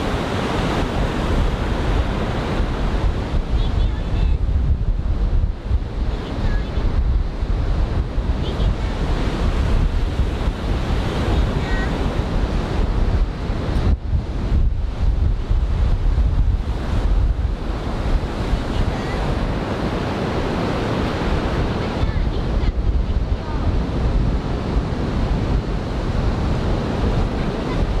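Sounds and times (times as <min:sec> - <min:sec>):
ocean waves breaking: 0:00.0 - 0:28.0
wind buffeting microphone: 0:00.0 - 0:28.0.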